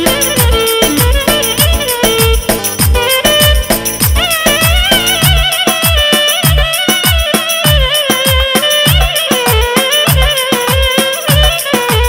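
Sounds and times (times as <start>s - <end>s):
clarinet dance tune: 0.0s - 12.0s.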